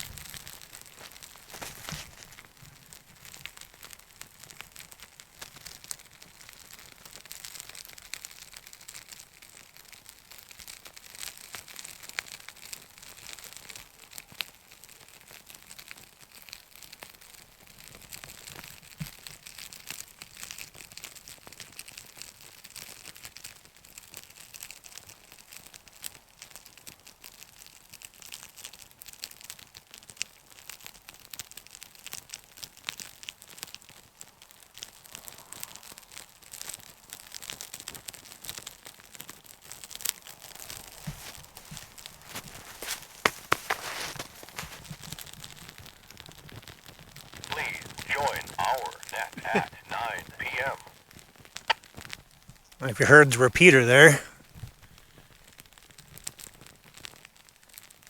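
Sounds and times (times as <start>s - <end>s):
bark crackling in fire: 0.0s - 51.0s, 51.6s - 54.3s.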